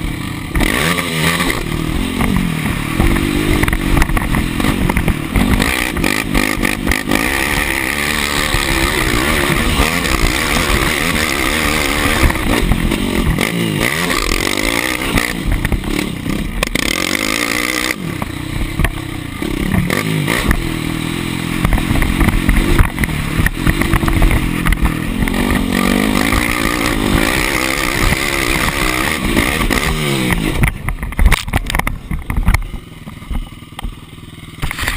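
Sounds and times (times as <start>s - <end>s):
clatter over bumps: 0.0s - 34.9s
quad engine revving: 0.0s - 34.9s.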